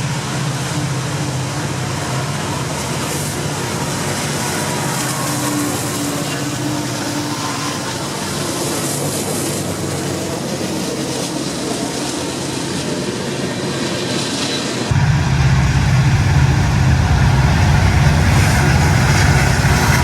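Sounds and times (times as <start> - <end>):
freight train passing: 0.0 - 20.0.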